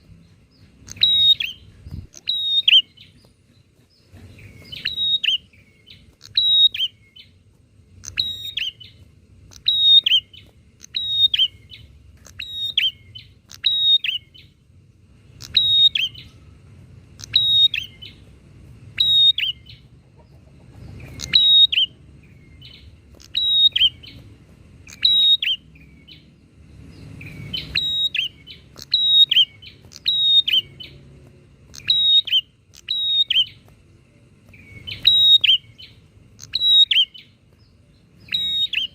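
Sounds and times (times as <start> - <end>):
birds chirping sharply: 0.0 - 38.9.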